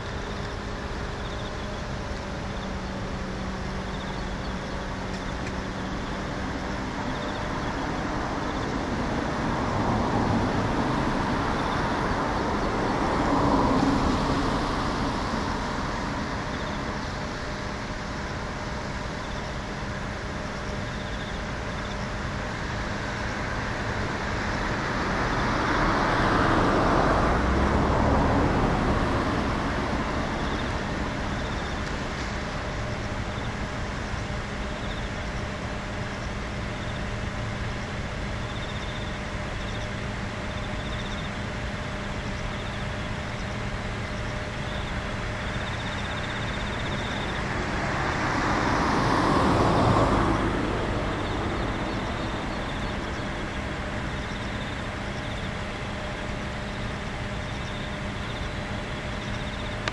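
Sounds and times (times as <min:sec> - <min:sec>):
jet engines whining at taxi: 0:00.0 - 0:59.9.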